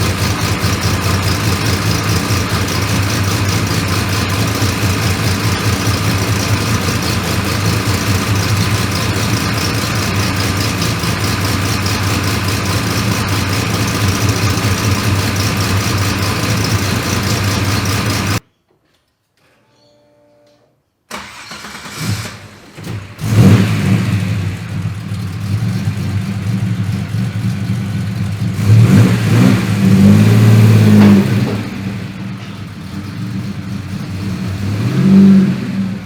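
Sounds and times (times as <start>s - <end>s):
car engine idling: 0.0s - 18.4s, 22.4s - 36.0s.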